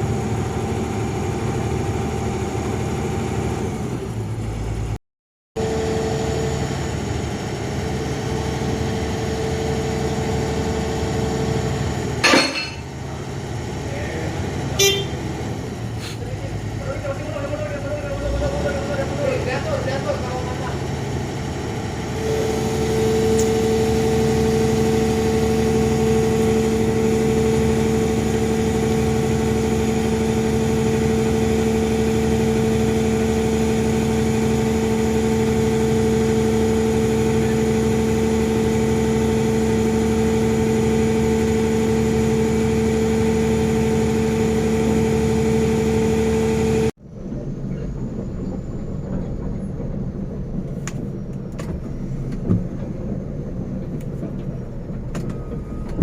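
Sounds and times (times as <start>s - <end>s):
diesel engine running: 0.0s - 5.0s, 5.6s - 56.0s.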